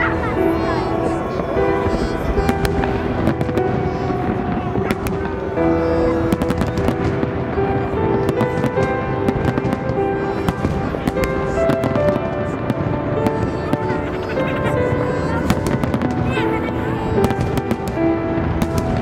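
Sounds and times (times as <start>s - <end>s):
fireworks bangs and crackles: 0.0s - 19.0s
music with long held notes: 0.0s - 19.0s.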